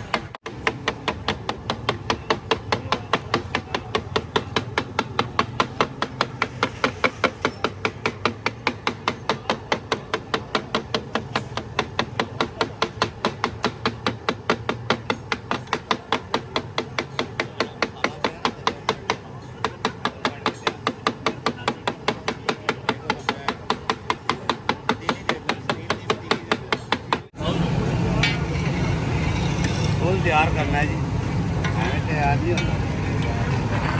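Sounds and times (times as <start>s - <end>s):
street noise: 0.0s - 33.9s.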